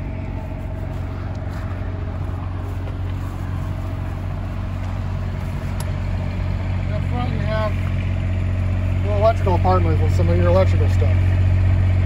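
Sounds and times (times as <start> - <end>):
motorhome engine humming: 0.0 - 12.0.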